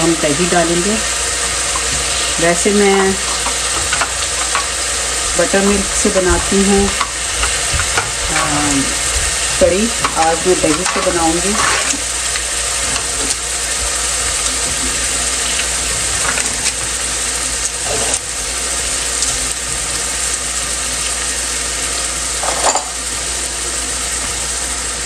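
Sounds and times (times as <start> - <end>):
paste sizzling in oil: 0.0 - 22.4.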